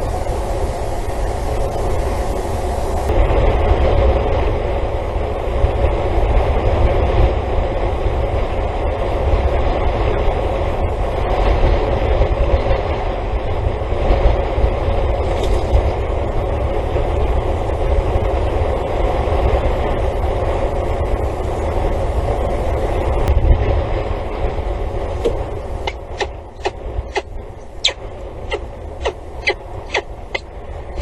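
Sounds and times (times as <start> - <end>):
low rumbling noise: 0.0 - 31.0.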